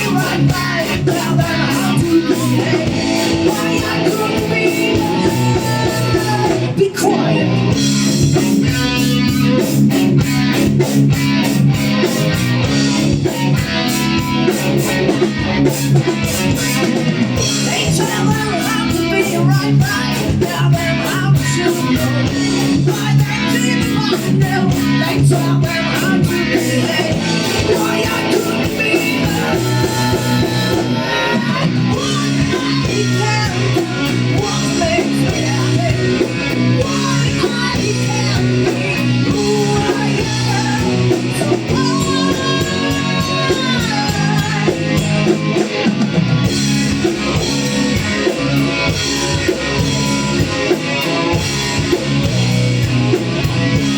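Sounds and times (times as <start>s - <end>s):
drum kit: 0.0s - 53.9s
guitars: 0.0s - 53.9s
live rock band playing: 0.0s - 53.9s.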